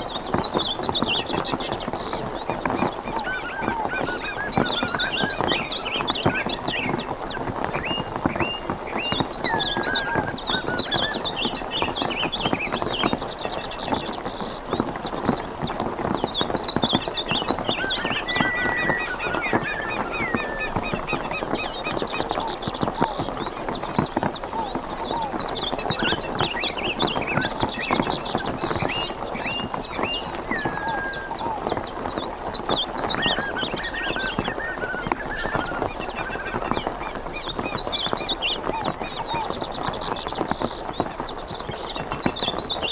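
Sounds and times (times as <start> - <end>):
birds chirping and whistling: 0.0 - 42.9.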